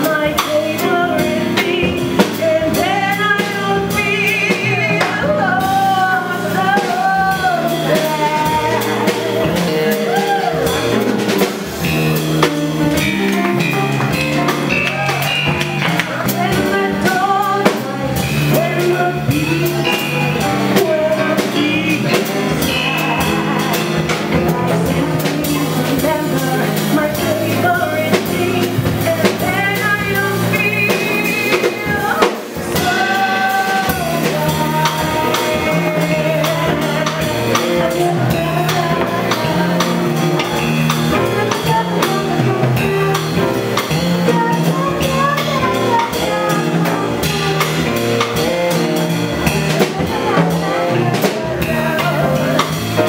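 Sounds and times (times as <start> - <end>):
woman singing into microphone: 0.0 - 10.8, 16.0 - 53.0
live band with drums: 0.0 - 53.0.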